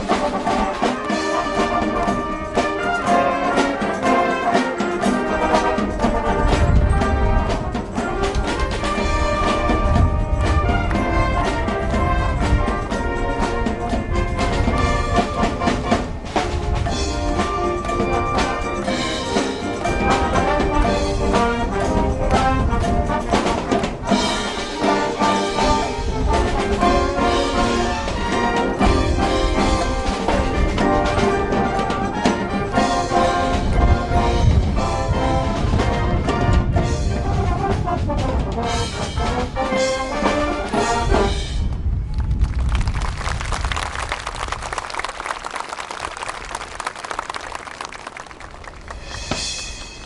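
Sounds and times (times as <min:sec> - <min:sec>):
brass chords: 0:00.0 - 0:41.7
steady drum beat: 0:00.0 - 0:41.8, 0:48.8 - 0:50.0.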